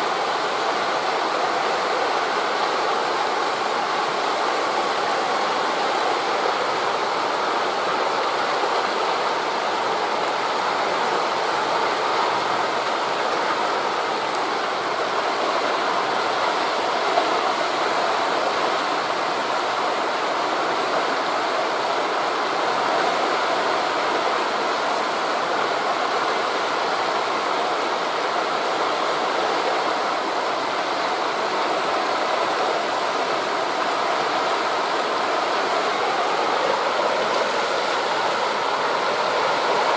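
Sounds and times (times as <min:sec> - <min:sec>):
sea surf: 0:00.0 - 0:39.9
wind rushing through leaves: 0:00.0 - 0:39.9.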